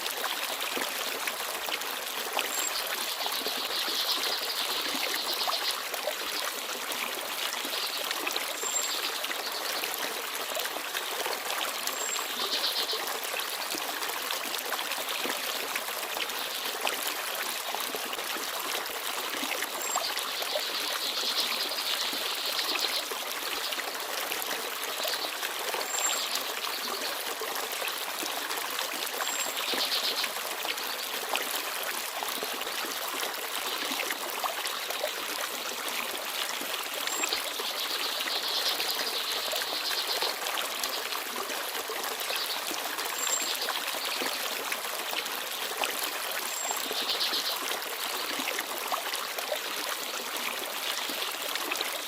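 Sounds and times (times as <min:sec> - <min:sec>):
stream babbling: 0:00.0 - 0:52.0.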